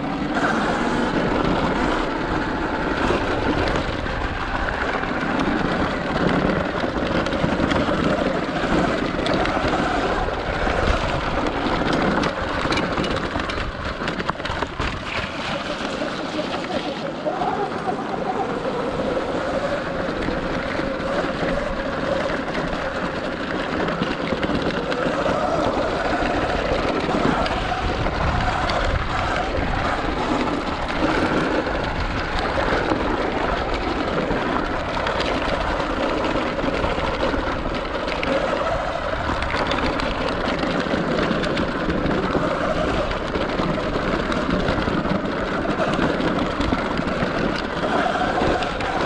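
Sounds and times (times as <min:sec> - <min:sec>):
tyre drivetrain and wind noise: 0:00.0 - 0:49.0.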